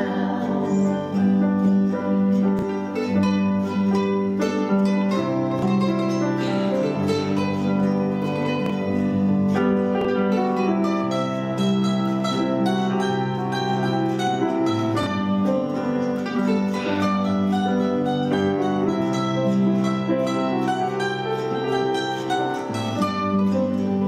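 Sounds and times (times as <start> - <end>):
acoustic guitar: 0.0 - 24.0
grand piano: 0.0 - 24.0.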